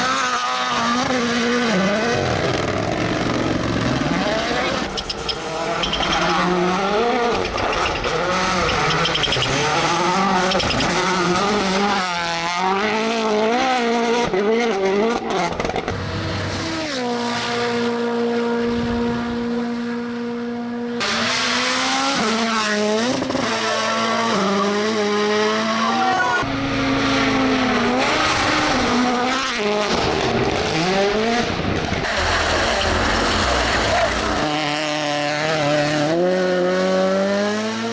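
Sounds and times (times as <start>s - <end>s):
rally car engines revving: 0.0s - 37.9s.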